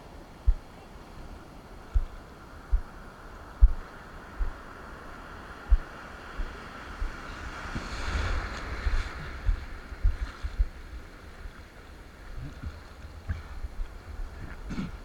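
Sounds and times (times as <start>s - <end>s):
ocean water rushing and splashing: 0.0s - 15.0s
wind buffeting microphone: 0.0s - 15.0s.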